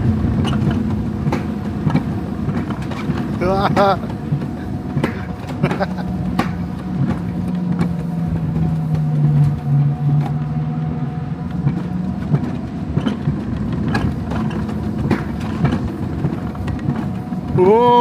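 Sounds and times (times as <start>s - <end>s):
low hum: 0.0s - 18.0s
sled wheels rumbling on rails: 0.0s - 18.0s
clacks and knocks: 0.1s - 10.8s, 11.4s - 18.0s.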